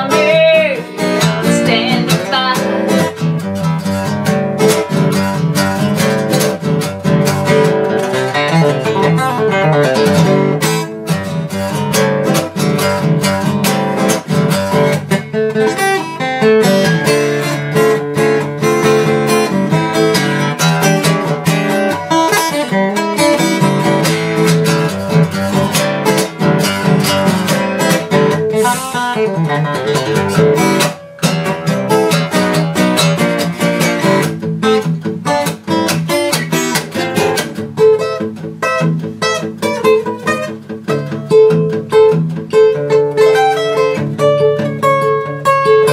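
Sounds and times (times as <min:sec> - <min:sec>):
acoustic guitar picked and strummed: 0:00.0 - 0:45.9.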